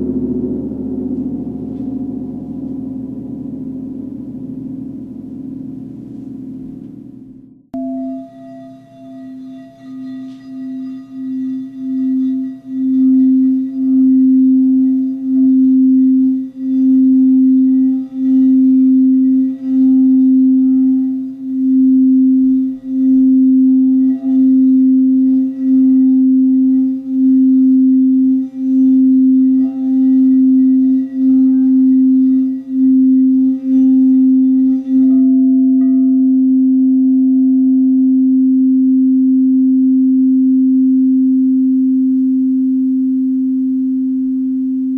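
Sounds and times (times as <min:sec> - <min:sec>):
singing bowl sustained note: 0:00.0 - 0:44.9.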